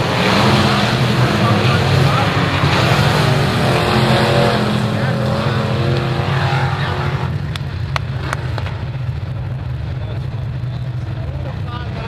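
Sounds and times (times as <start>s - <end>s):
race car engine droning: 0.0s - 12.0s.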